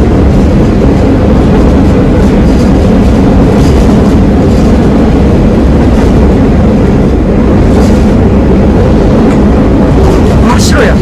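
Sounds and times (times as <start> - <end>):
diesel railcar engine rumble: 0.0 - 11.0
train wheels on rails: 0.0 - 11.0.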